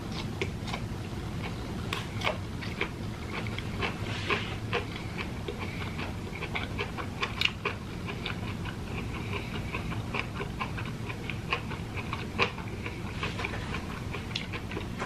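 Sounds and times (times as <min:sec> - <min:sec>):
chewing with mouth clicks and smacks: 0:00.0 - 0:15.0.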